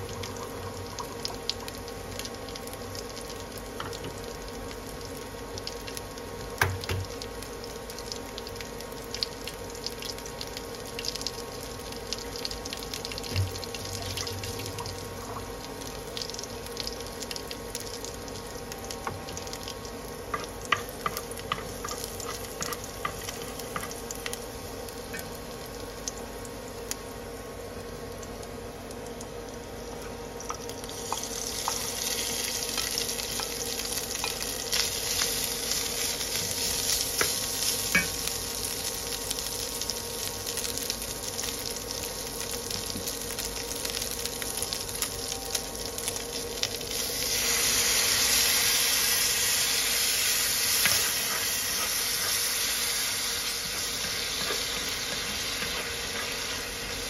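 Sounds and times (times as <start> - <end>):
garlic sizzling in oil: 0.0 - 57.0.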